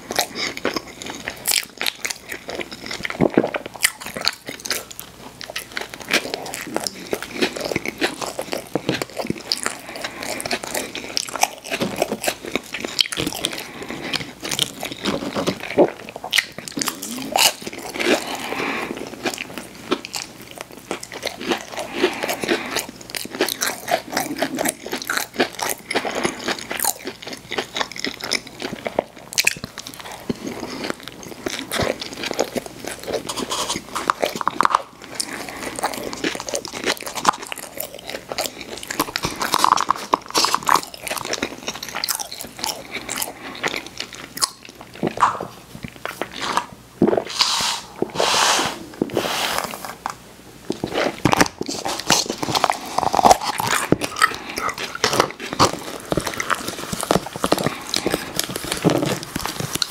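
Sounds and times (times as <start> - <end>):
crunching and chewing food: 0.0 - 48.2, 48.9 - 59.9.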